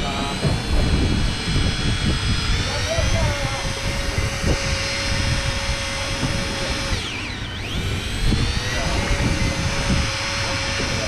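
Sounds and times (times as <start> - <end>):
electric fishing reel motor whining: 0.0 - 11.0
low rumble: 0.0 - 11.0.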